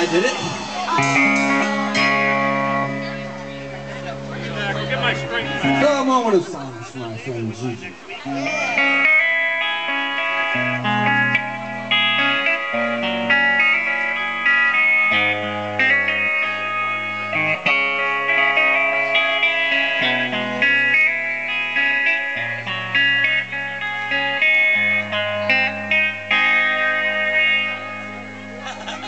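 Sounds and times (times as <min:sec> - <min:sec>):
electric guitar pattern: 0:00.0 - 0:29.0
low held notes: 0:00.0 - 0:29.0.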